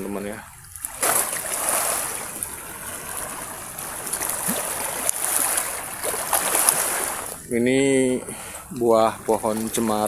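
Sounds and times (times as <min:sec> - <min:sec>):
gentle sea waves on shore: 0:00.0 - 0:10.0.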